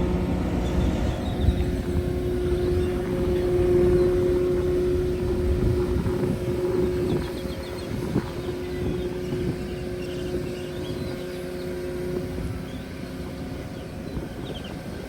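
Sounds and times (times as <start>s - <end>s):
engine humming steadily: 0.0s - 15.0s
wind buffeting microphone: 0.0s - 15.0s.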